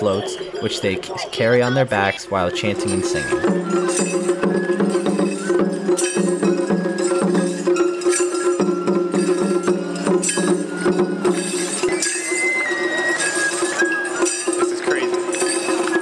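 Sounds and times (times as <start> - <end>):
percussion hits: 0.0 - 16.0.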